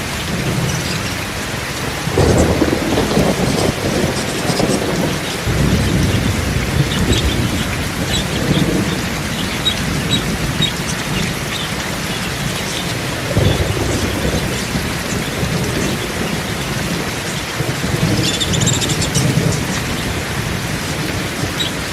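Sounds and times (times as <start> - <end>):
steady rain hiss: 0.0 - 21.9.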